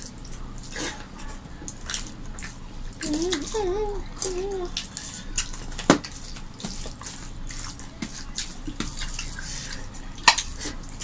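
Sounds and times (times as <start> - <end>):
wet squelching of food mixed by hand: 0.0 - 11.0.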